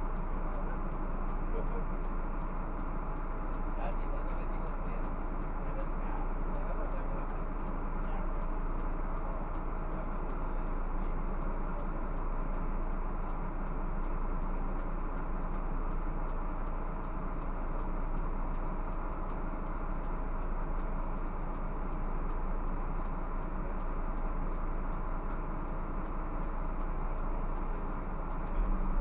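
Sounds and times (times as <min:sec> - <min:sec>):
bus engine and road noise: 0:00.0 - 0:29.0
faint ticks: 0:00.0 - 0:29.0.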